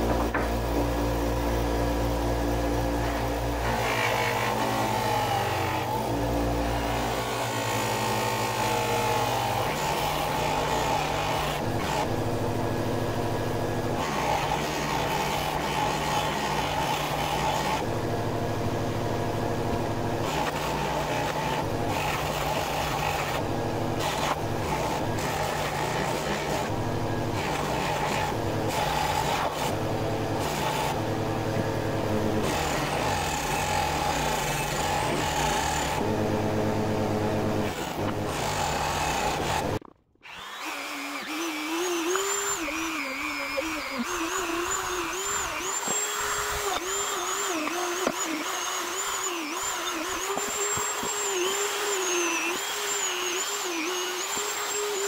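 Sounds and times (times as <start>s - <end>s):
bench grinder motor hum: 0.0s - 55.0s.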